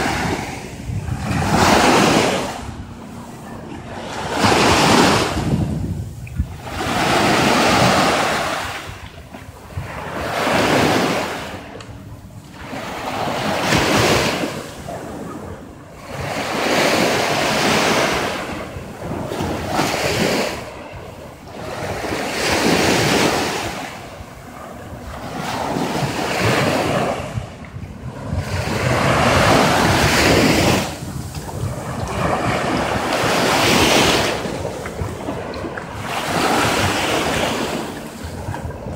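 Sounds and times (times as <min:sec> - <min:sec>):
small waves washing on sand: 0:00.0 - 0:38.9.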